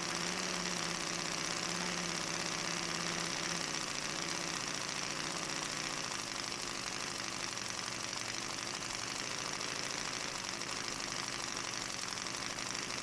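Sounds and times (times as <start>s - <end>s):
radial model engine running: 0.0s - 13.0s.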